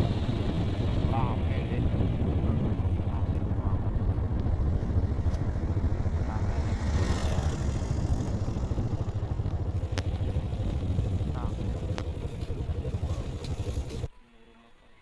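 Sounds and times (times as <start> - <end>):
vehicle engine rumbling: 0.0 - 14.1.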